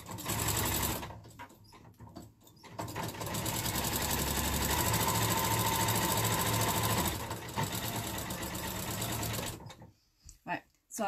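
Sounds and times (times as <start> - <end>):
sewing machine stitching: 0.0 - 9.9.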